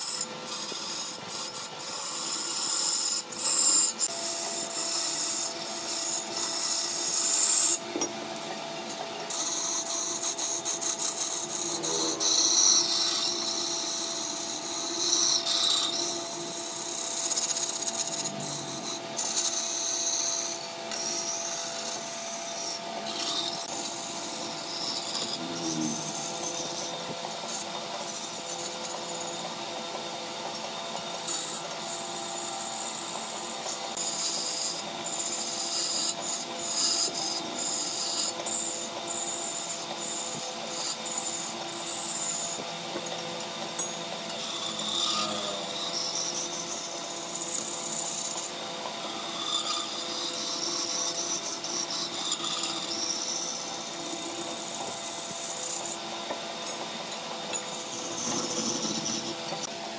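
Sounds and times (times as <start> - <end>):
tool scraping spinning wood: 0.0 - 59.8
lathe humming: 0.0 - 59.9.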